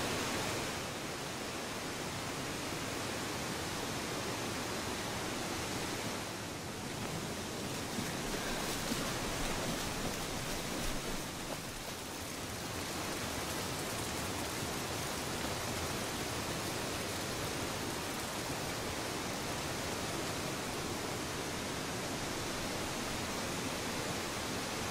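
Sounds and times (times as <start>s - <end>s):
stream and waterfall rushing: 0.0s - 24.9s.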